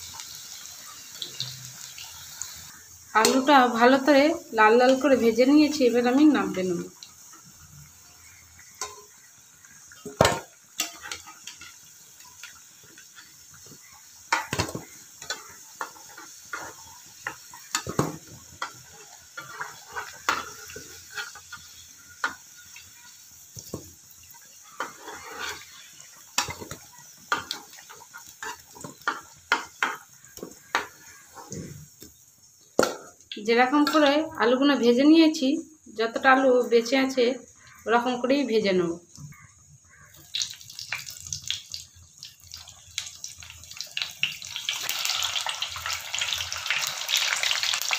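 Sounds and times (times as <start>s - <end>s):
frying oil sizzling: 0.0s - 47.9s.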